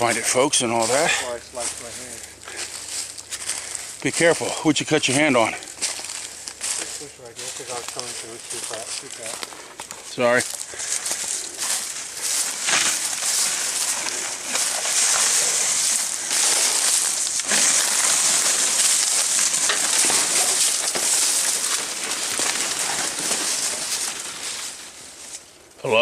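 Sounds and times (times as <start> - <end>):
leaves and twigs rustling: 0.0 - 25.8.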